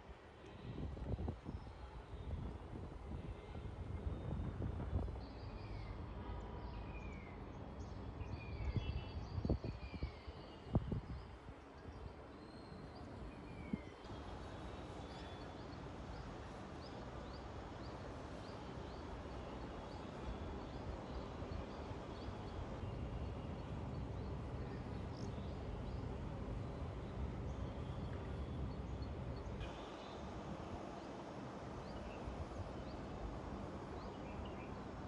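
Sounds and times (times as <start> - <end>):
steady outdoor noise: 0.0 - 35.0.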